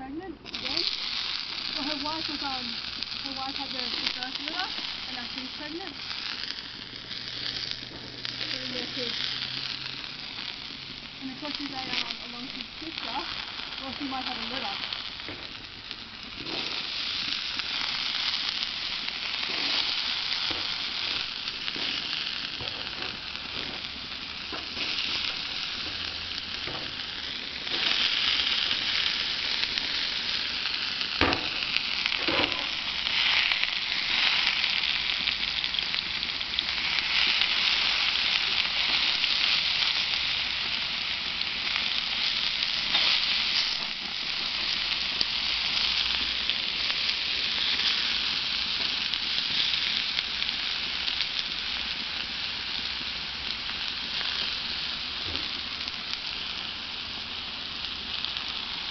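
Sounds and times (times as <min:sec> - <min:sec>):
potatoes sizzling on griddle: 0:00.0 - 0:58.9.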